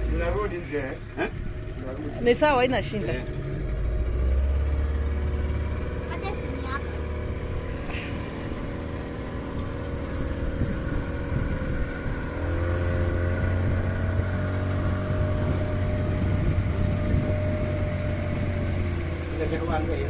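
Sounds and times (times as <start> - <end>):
motorboat engine: 0.0 - 20.0.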